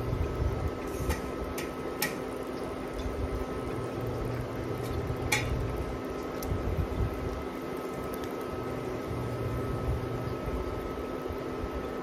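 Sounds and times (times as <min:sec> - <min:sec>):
broth bubbling in pot: 0:00.0 - 0:12.0
steady hum: 0:00.0 - 0:12.0.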